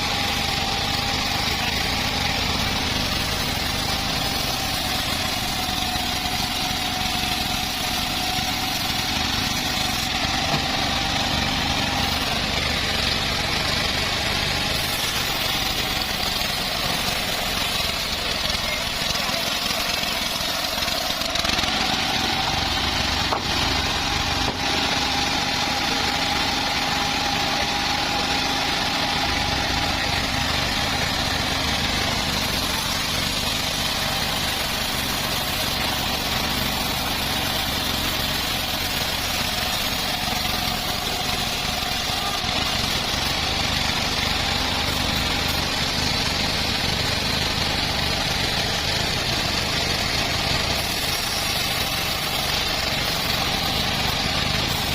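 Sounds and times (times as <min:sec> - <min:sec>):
bandsaw sawing a log: 0:00.0 - 0:54.9.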